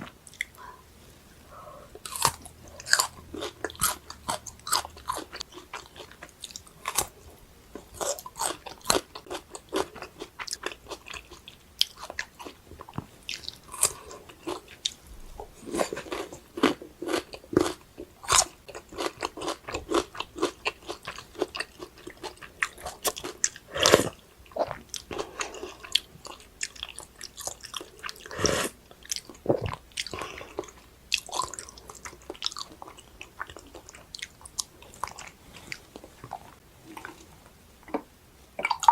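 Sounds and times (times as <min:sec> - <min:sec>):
chewing with crisp crunches: 0:00.0 - 0:00.8, 0:01.5 - 0:38.9.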